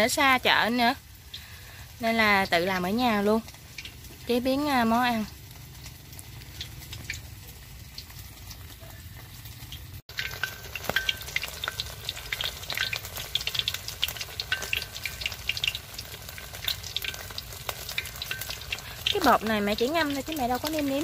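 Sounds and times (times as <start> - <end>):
chicken deep-frying in oil: 0.0 - 21.0
crackles and pops of frying: 0.0 - 21.0.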